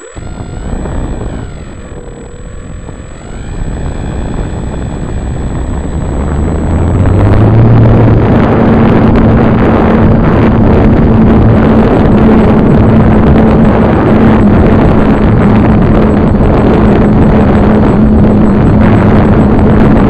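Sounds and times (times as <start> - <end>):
model airplane motor and propeller: 0.0 - 20.0.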